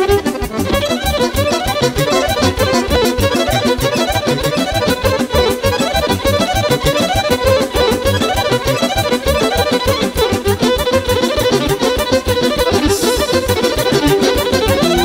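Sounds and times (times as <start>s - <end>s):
live band playing fast music: 0.0s - 15.0s.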